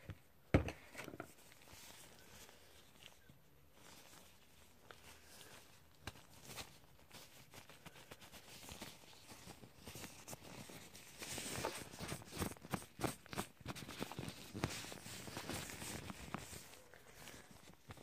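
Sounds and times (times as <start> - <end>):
damp cotton pad rustling: 1.2 - 18.0.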